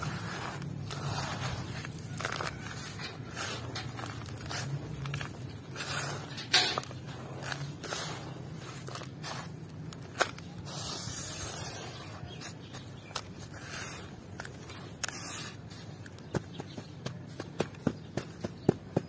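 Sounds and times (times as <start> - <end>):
hands raking gritty dirt: 0.0 - 19.0.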